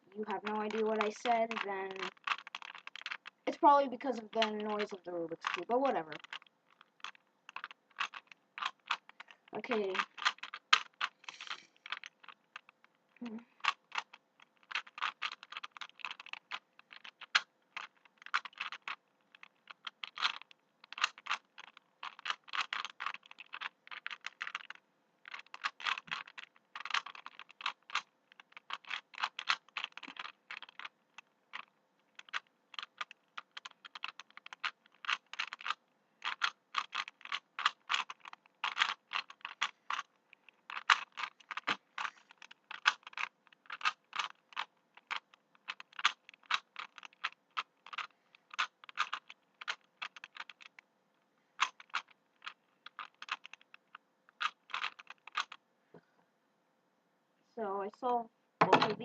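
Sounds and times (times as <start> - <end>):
puzzle cube plastic clicking: 0.2 - 50.9, 51.5 - 55.6.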